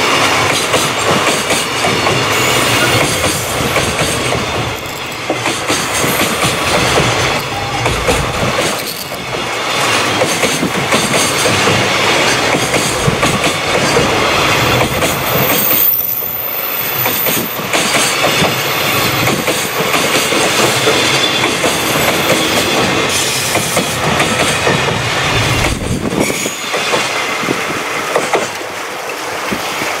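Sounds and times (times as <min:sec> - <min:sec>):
freight train wheels clattering: 0:00.0 - 0:28.7.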